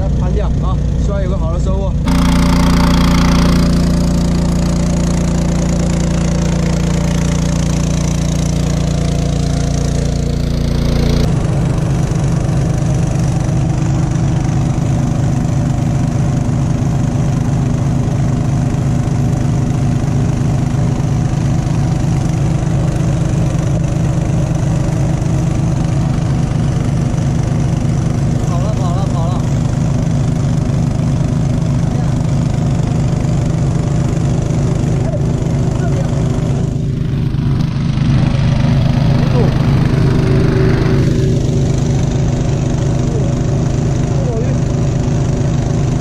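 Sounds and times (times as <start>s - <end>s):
water pump engine chugging: 0.0s - 46.0s.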